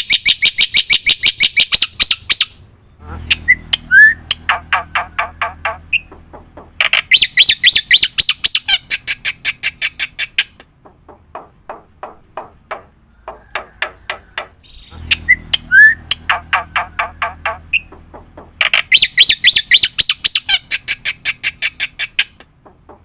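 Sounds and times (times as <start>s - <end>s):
bird harsh chattering calls: 0.0s - 12.2s, 13.1s - 23.0s.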